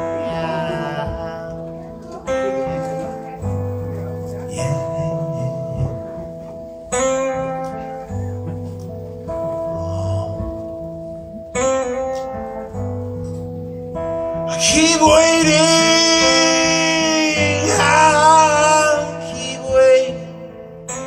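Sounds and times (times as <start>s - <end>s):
man singing blues: 0.0s - 10.9s, 14.4s - 21.0s
acoustic guitar: 0.0s - 21.0s.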